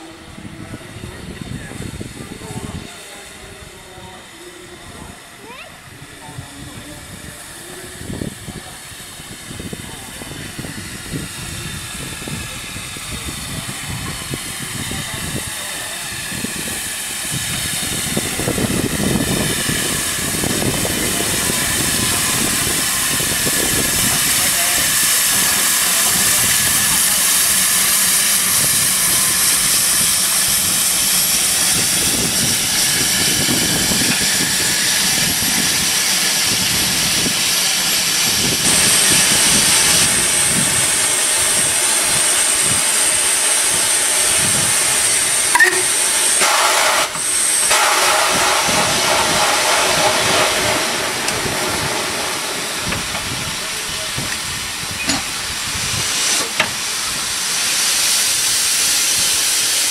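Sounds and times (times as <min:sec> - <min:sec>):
steam hissing from locomotive: 0:00.0 - 0:59.9.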